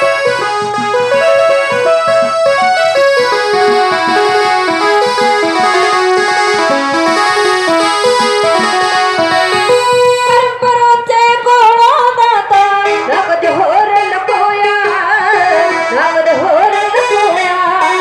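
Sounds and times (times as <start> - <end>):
keyboard melody: 0.0 - 18.0.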